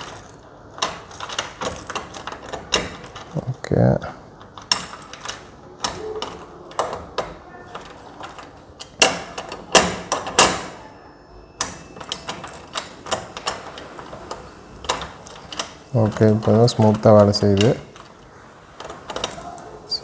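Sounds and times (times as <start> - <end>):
keys jangling: 0.0 - 3.6, 4.4 - 10.6, 11.6 - 20.0.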